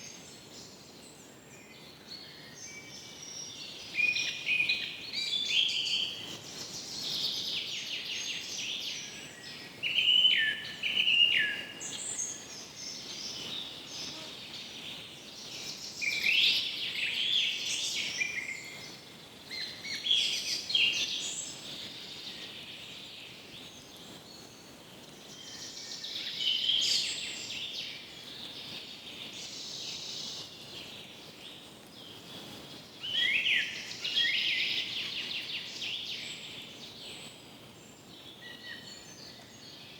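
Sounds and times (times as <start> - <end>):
forest ambience hiss: 0.0 - 39.9.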